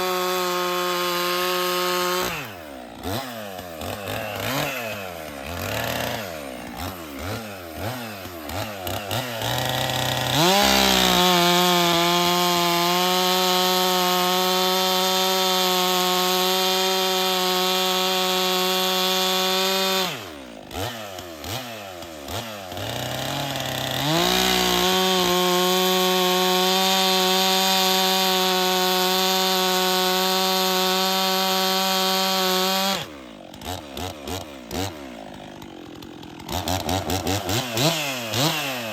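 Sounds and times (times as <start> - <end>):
chainsaw cutting log at full throttle: 0.0 - 38.9
chainsaw idling: 0.0 - 38.9.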